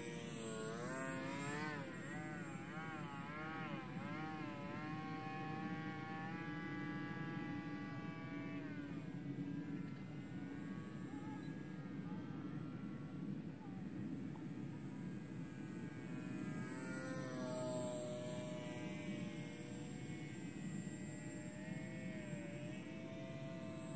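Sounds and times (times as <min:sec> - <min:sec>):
model plane motor whining: 0:00.0 - 0:23.9.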